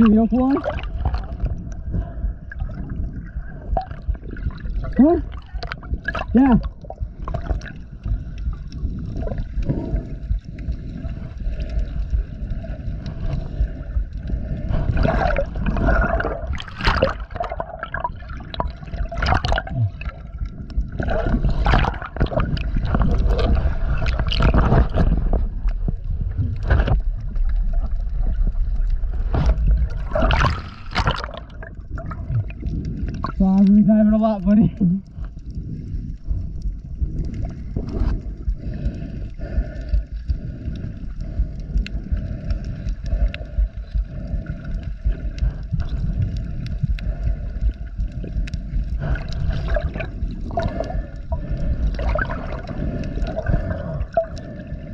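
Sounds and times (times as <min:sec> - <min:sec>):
constant low rumble: 0:00.0 - 0:54.9
water sloshing and bubbling: 0:00.0 - 0:54.9
water splashing: 0:00.0 - 0:54.9.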